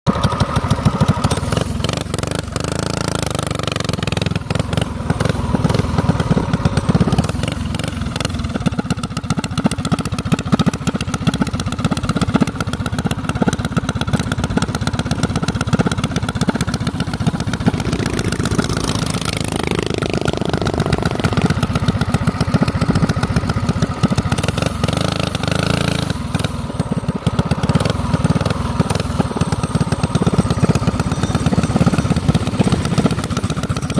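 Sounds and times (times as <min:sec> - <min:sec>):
minibike engine running: 0:00.1 - 0:33.9.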